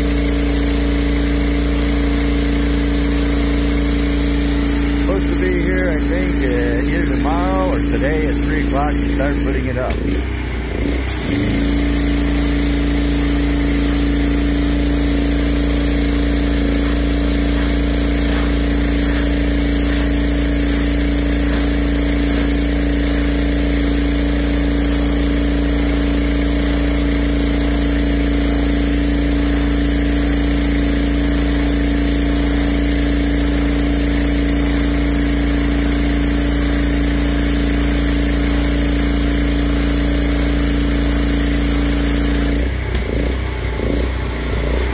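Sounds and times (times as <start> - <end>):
water spray hissing on concrete: 0.0 - 9.4, 11.1 - 42.6
pressure washer running: 0.0 - 44.9.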